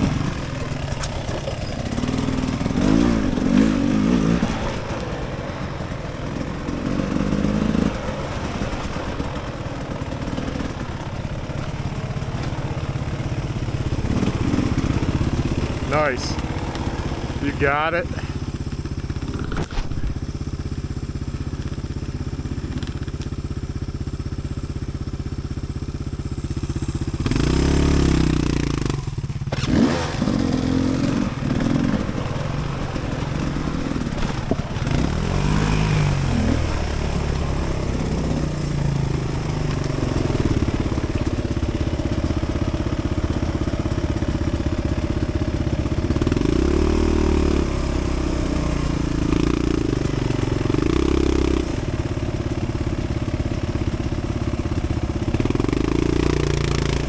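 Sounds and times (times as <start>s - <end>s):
dirt bike engine idling and revving: 0.0s - 57.0s.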